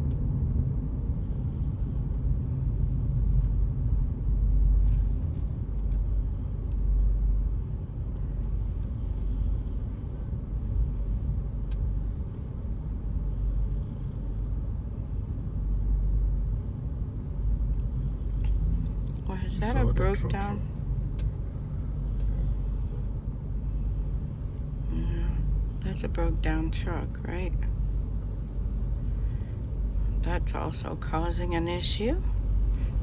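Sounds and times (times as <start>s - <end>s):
car engine and tyre noise: 0.0s - 33.0s.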